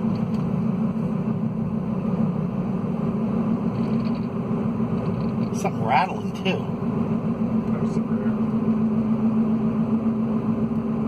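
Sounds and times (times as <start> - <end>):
tire roar inside car: 0.0 - 11.0.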